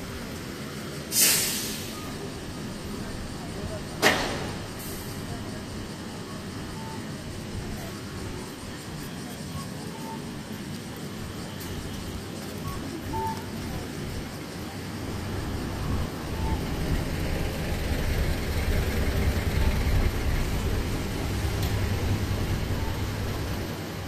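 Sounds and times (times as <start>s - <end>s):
vehicles passing: 2.0s - 24.0s.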